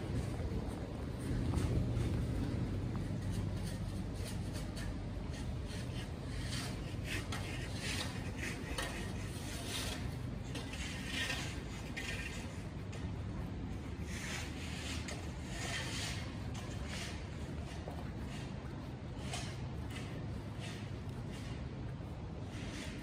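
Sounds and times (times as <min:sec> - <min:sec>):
low city rumble: 0:00.0 - 0:23.0.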